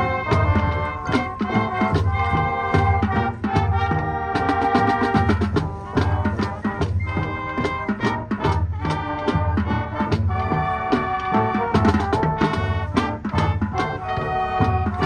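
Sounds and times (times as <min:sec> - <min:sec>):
brass holding chords: 0:00.0 - 0:15.0
drumline strokes: 0:00.0 - 0:15.0.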